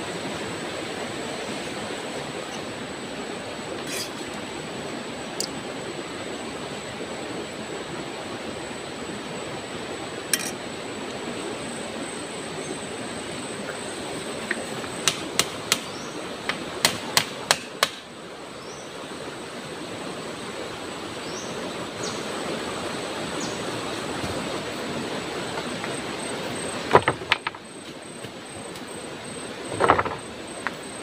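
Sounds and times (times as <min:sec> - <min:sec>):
outdoor hiss: 0:00.0 - 0:31.0.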